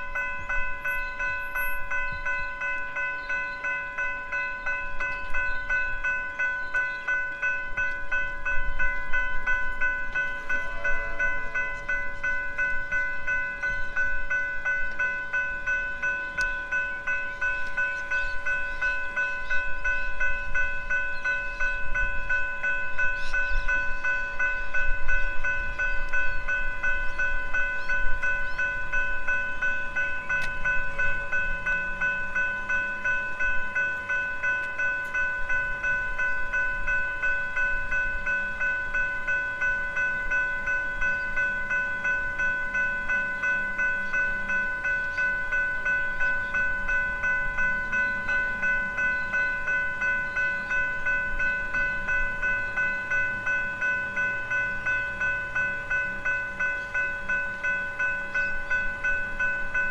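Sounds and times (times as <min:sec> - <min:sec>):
level crossing bells ringing: 0:00.0 - 0:59.9.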